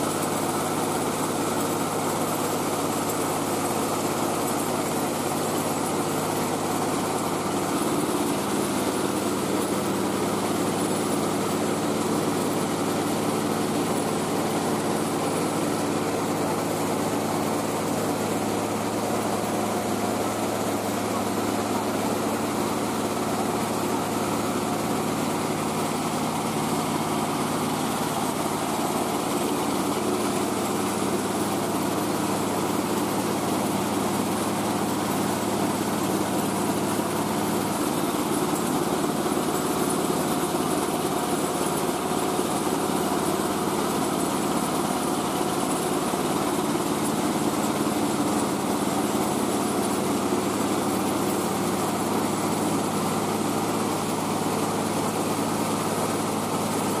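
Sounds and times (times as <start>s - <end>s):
rice-milling machine humming: 0.0s - 57.0s.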